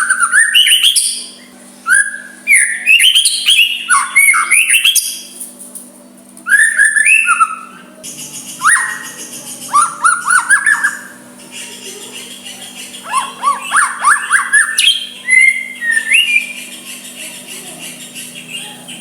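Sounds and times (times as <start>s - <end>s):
bird singing whistled notes: 0.0s - 5.3s, 6.5s - 19.0s.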